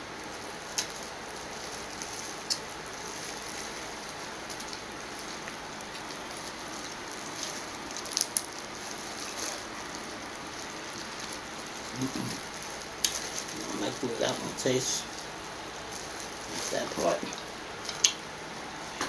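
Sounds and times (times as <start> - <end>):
crawfish shells crackling: 0.0 - 19.0
plastic gloves rustling: 0.0 - 19.0
steady hiss: 0.0 - 19.0.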